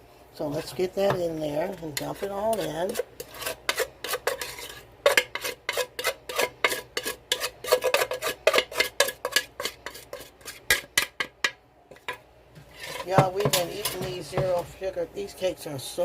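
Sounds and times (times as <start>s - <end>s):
utensil stirring batter in bowl: 0.4s - 14.9s.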